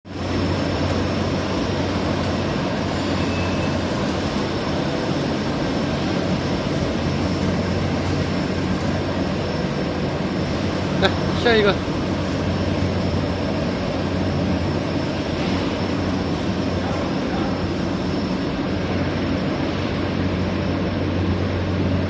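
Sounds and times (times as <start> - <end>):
production line machinery running: 0.1 - 22.0.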